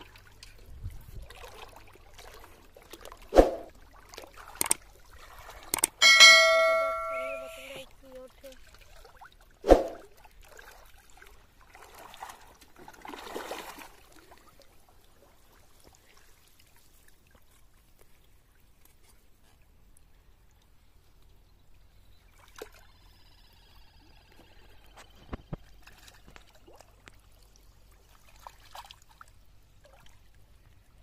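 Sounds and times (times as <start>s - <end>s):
shallow water sloshing and trickling: 0.0s - 5.8s, 7.9s - 31.0s.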